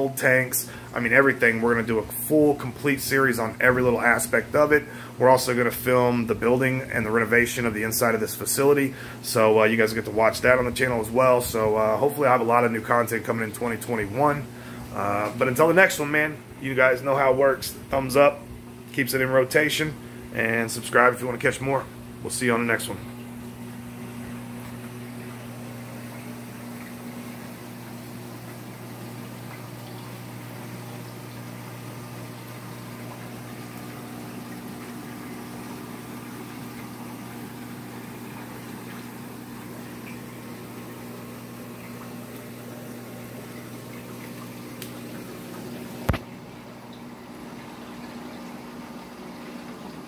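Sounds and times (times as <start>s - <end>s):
circulating water rushing: 0.0s - 50.0s
pumps humming: 0.0s - 50.0s.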